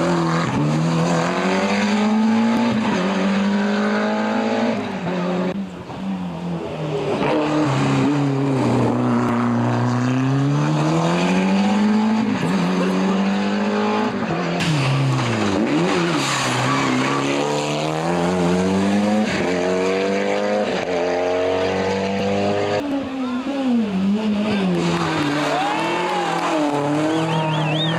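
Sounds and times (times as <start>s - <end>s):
rally car engine revving: 0.0s - 27.9s.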